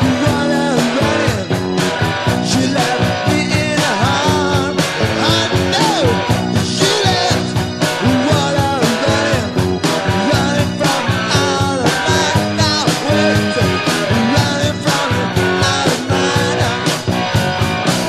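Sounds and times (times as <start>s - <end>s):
rock band music: 0.0s - 18.0s.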